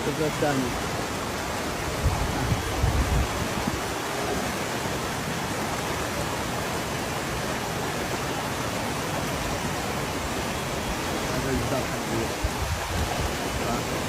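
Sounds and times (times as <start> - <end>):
torrent of water rushing: 0.0 - 14.0.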